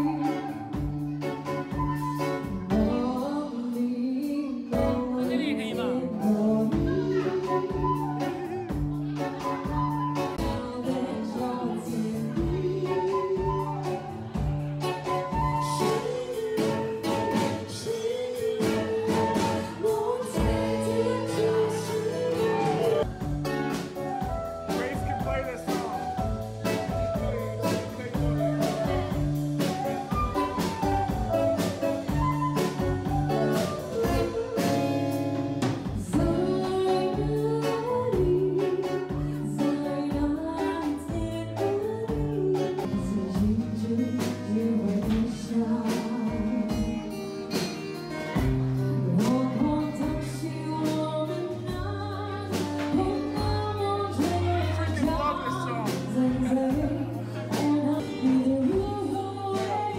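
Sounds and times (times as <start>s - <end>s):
woman singing: 0.0s - 24.5s, 26.1s - 47.7s, 48.4s - 59.9s
acoustic guitar: 0.0s - 59.9s
drum kit beat: 0.0s - 59.9s.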